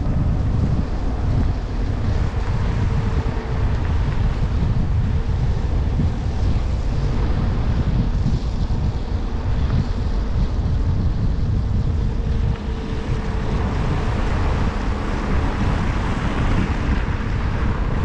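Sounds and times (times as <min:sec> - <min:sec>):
faint steady hum: 0:00.0 - 0:18.0
road noise inside car cabin: 0:00.0 - 0:18.0.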